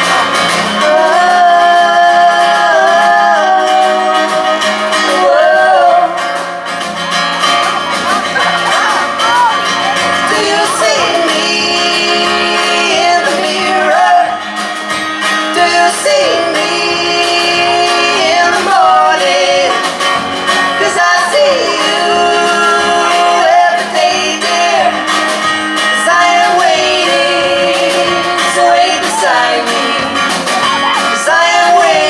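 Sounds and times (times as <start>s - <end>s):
band accompaniment: 0.0s - 32.0s
strummed acoustic guitar: 0.0s - 32.0s
woman singing: 0.6s - 6.5s, 9.0s - 32.0s.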